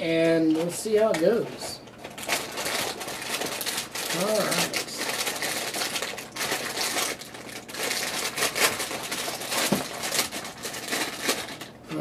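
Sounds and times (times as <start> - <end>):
plastic bag crackling: 0.0 - 11.8.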